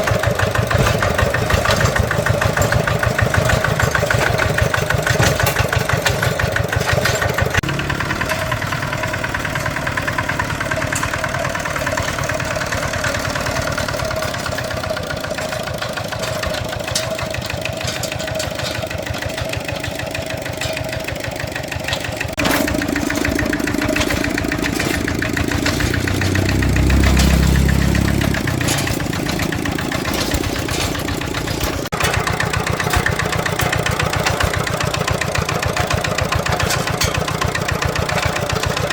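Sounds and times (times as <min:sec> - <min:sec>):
farm vehicle engines chugging: 0:00.0 - 0:38.9.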